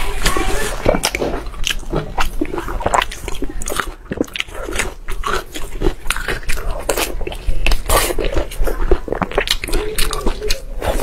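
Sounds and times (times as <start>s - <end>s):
chewing and biting meat: 0.2s - 11.0s
wet mouth clicks: 0.7s - 11.0s.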